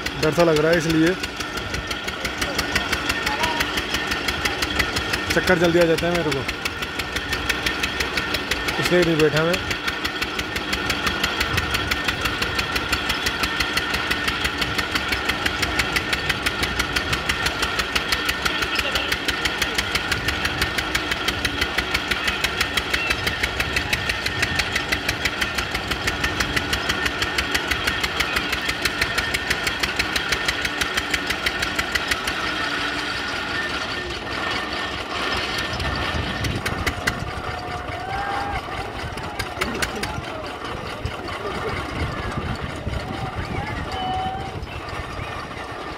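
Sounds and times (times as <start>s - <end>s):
engine knocking: 0.0s - 45.9s.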